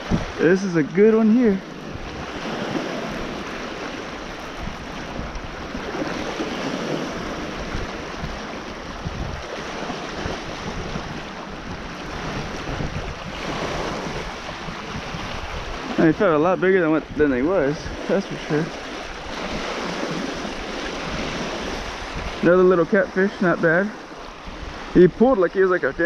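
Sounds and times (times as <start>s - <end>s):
waves lapping on rocks: 0.0s - 26.0s
wind buffeting microphone: 0.0s - 26.0s.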